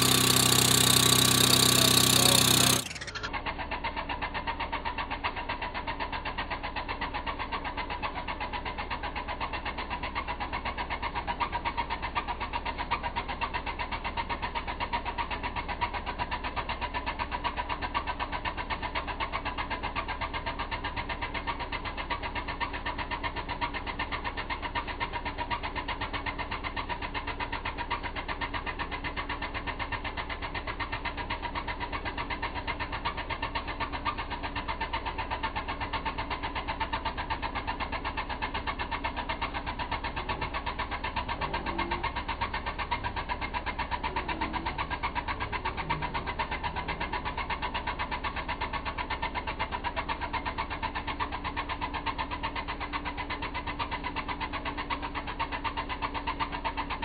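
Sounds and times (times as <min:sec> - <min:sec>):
small engine idling: 0:00.0 - 0:57.0.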